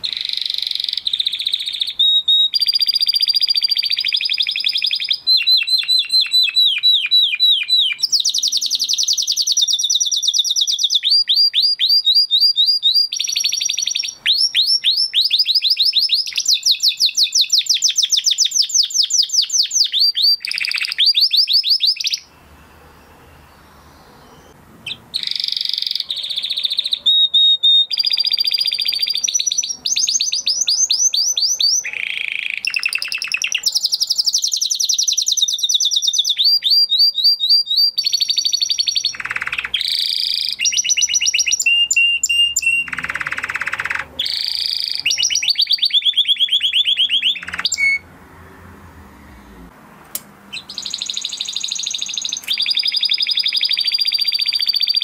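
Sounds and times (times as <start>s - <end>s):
canary trilling song: 0.0s - 49.7s, 50.4s - 55.0s.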